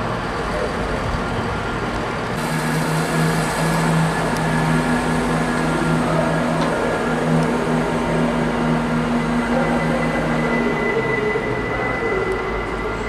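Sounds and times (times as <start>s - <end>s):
train mechanical drone: 0.0s - 13.0s.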